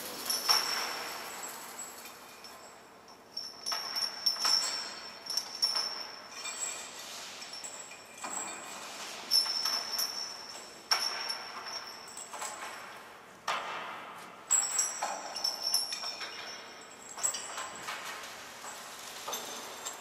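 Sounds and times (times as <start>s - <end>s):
metal clanks with ringing: 0.0s - 20.0s
metal clinks and rattles: 0.0s - 20.0s.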